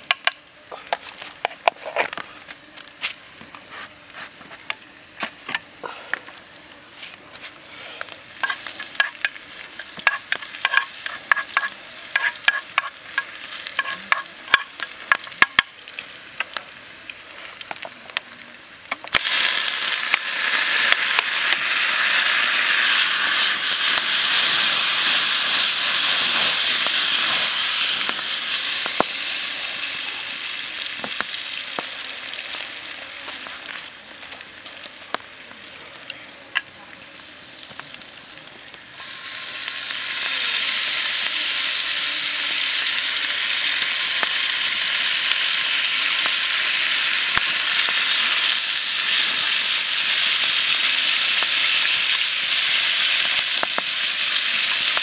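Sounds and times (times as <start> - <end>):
onions sizzling in hot oil: 0.0 - 55.0.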